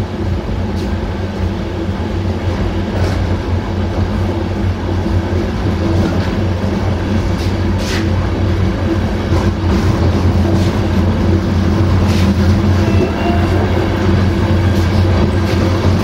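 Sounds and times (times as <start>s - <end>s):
train wheels droning on rails: 0.0s - 16.0s.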